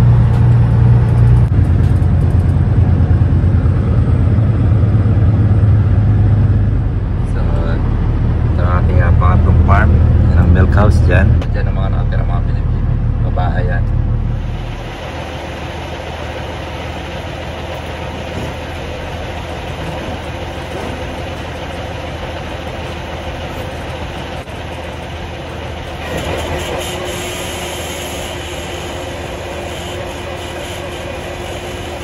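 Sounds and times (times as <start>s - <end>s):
higher hum: 0.0s - 32.0s
machinery drone: 0.0s - 32.0s.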